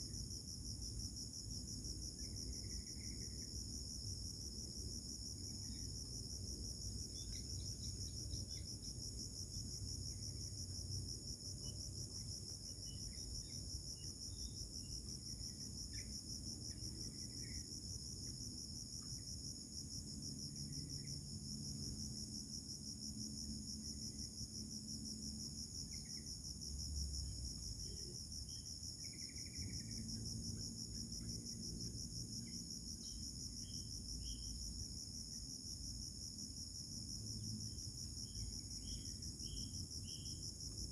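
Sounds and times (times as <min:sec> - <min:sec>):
chorus of chirping insects: 0:00.0 - 0:40.9.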